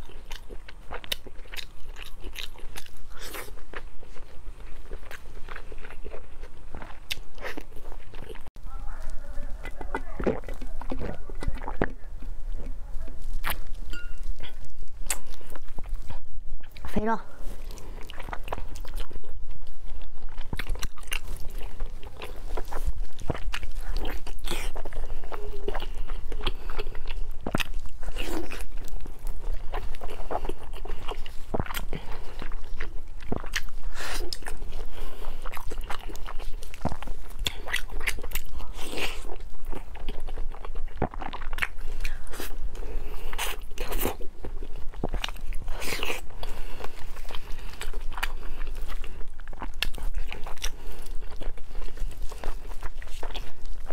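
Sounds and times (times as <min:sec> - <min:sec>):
biting and chewing: 0:00.0 - 0:53.9.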